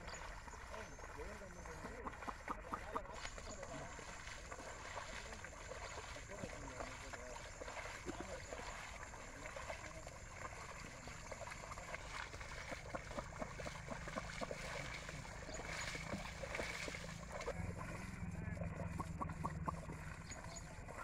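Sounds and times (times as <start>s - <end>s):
muddy water sloshing and splashing: 0.0s - 21.0s.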